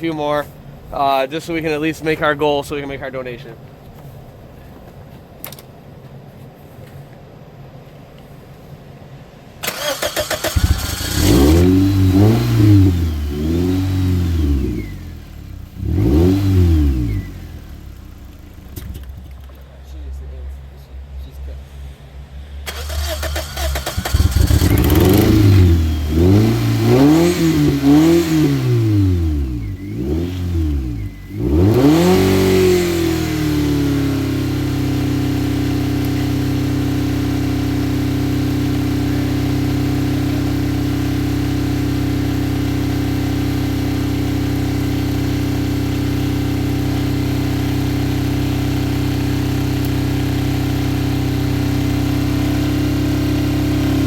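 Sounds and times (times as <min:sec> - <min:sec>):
car engine revving and idling: 0:09.8 - 0:54.0.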